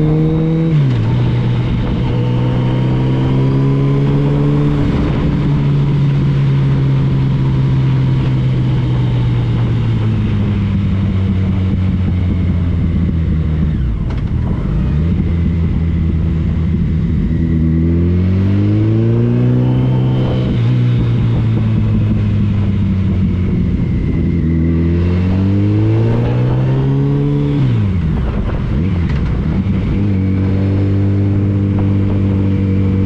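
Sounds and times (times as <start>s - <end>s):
motorcycle engine running: 0.0s - 33.0s
wind and road noise: 0.0s - 33.0s.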